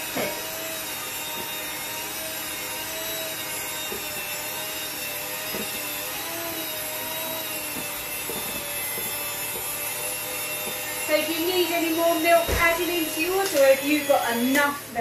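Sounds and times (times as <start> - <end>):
electric hand mixer whine: 0.0 - 15.0.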